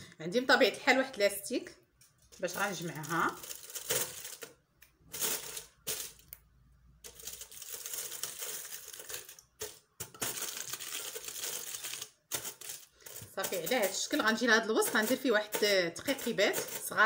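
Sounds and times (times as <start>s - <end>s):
aluminium foil crinkling: 2.3s - 6.4s, 7.0s - 17.0s.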